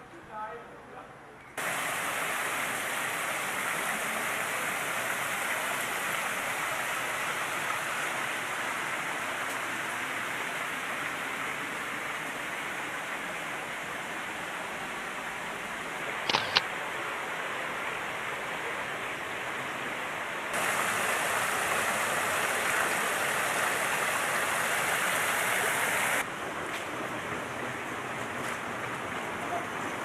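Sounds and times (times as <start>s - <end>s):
fountain water splashing: 1.6s - 30.0s.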